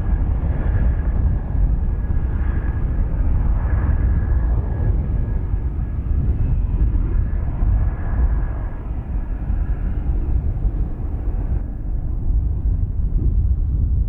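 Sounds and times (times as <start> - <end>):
turbine whine: 0.0 - 14.0.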